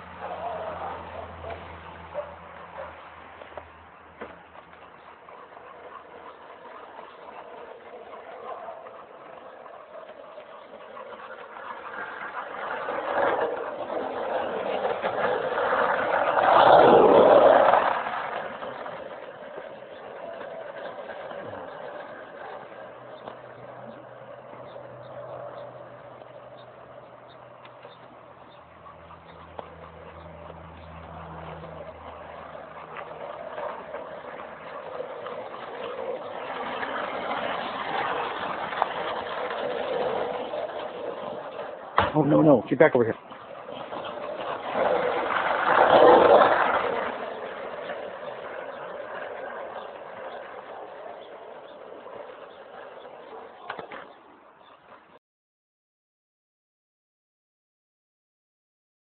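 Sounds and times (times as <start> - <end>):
skateboard wheels rolling on asphalt: 0.0 - 55.2.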